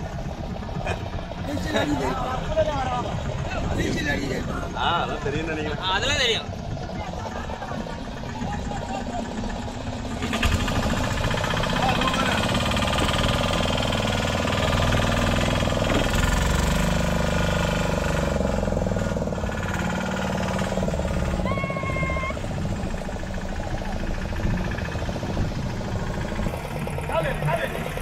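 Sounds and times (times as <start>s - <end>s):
boat engine chugging: 0.0s - 28.0s.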